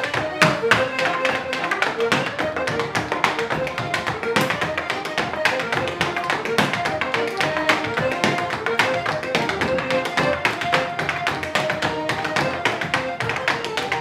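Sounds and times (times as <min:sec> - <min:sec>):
accordion playing dance tune: 0:00.0 - 0:14.0
dance steps on floor: 0:00.0 - 0:14.0.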